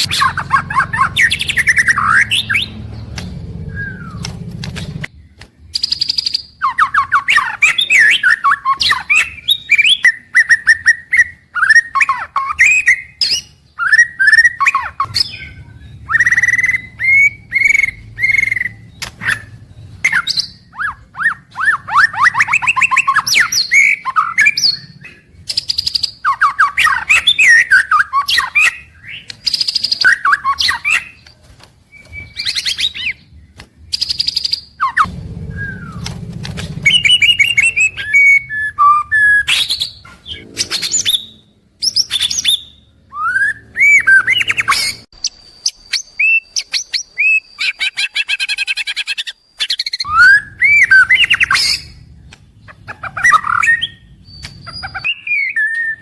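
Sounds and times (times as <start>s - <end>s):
songbird singing whistles and trills: 0.0s - 36.2s, 36.8s - 56.0s.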